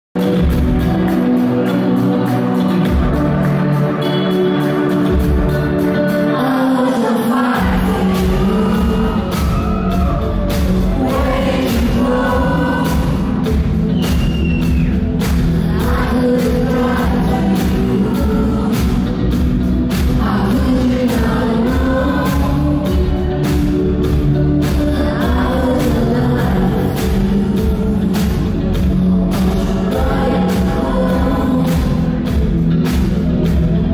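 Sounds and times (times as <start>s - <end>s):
bass and drums: 0.1s - 6.2s, 7.6s - 33.9s
woman singing lead vocal: 5.4s - 33.4s.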